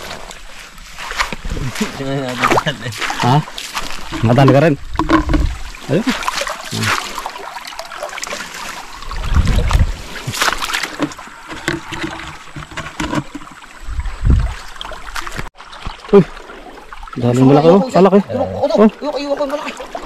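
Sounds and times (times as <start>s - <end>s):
shallow river water sloshing: 0.0s - 20.0s
sharp water splashes: 0.0s - 20.0s.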